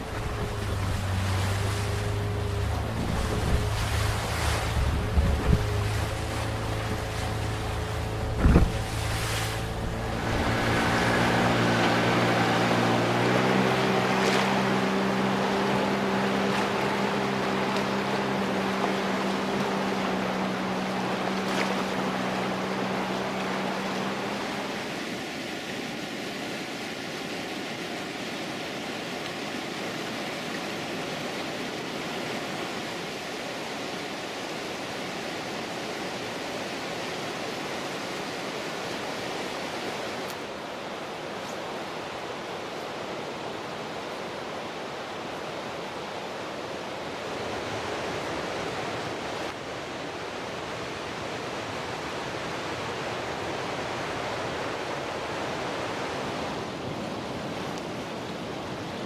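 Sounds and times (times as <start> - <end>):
river rapids and waterfall rushing: 0.0 - 59.0.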